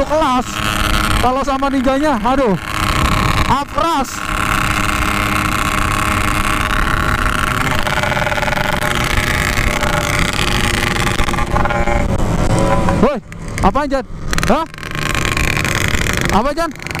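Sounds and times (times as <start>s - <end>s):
two-stroke motorcycle riding at speed: 0.0s - 17.0s.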